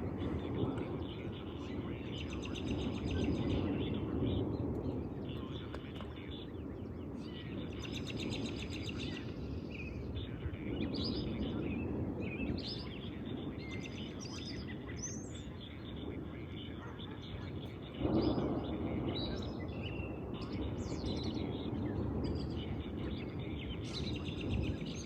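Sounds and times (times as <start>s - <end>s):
bird chirps: 0.0s - 25.0s
songbird trill: 0.0s - 25.0s.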